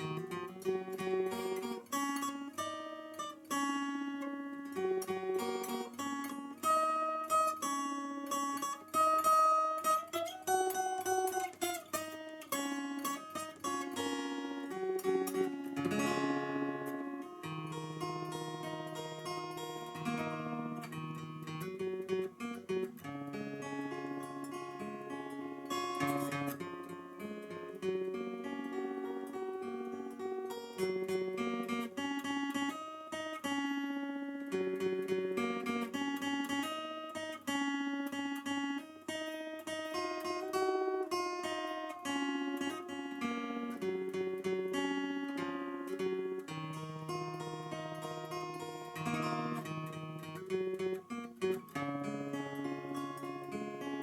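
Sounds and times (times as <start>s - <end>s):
fingerpicked acoustic guitar: 0.0s - 54.0s.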